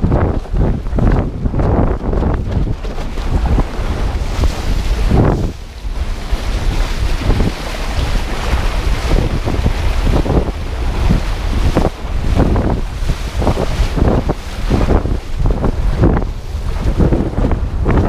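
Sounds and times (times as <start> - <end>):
board slapping waves: 0.0 - 18.0
water rushing and splashing: 0.0 - 18.0
wind buffeting microphone: 0.0 - 18.0.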